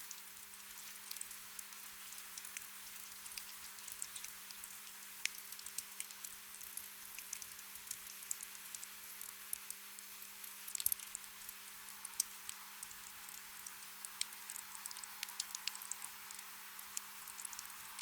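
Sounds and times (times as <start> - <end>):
gentle rain hiss: 0.0 - 18.0.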